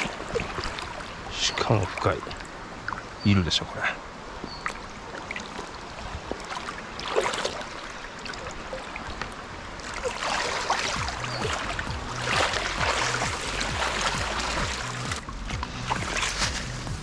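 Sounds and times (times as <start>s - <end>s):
water splashing: 0.0s - 3.2s, 4.1s - 17.0s
stream water flowing: 0.0s - 17.0s.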